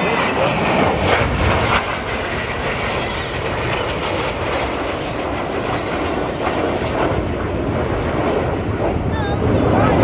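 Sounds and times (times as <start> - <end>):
jets roaring past: 0.0 - 10.0.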